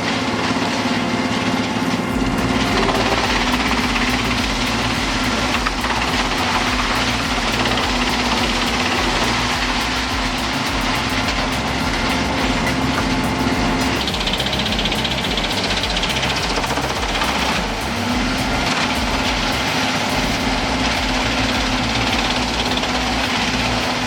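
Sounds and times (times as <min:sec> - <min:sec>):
high hiss: 0:01.3 - 0:24.0.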